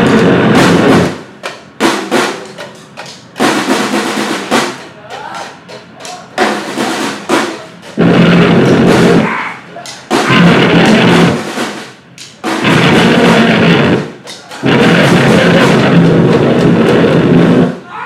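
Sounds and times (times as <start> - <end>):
scattered drum hits: 0.0 - 5.0, 6.4 - 9.4, 10.1 - 17.8
noise-grind band playing: 0.0 - 18.0.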